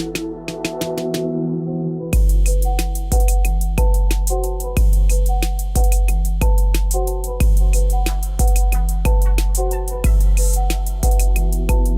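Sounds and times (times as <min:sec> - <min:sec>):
plucked melody: 0:02.2 - 0:11.9.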